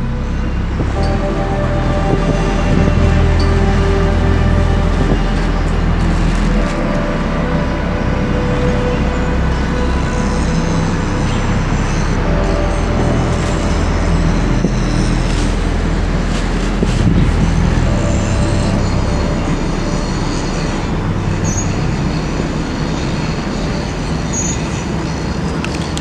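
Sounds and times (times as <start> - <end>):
low mechanical rumble: 0.0 - 26.0.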